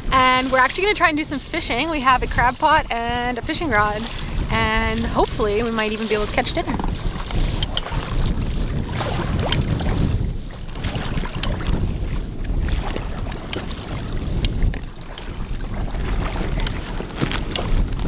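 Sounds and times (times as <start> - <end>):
water slapping against hull: 0.0 - 18.0
wind buffeting microphone: 0.0 - 18.0.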